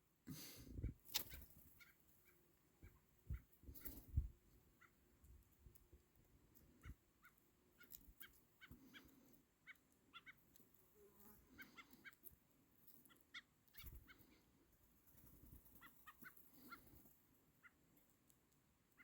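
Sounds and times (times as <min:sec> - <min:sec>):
faint bird calls: 0:00.4 - 0:05.1, 0:06.6 - 0:12.4, 0:13.0 - 0:17.9.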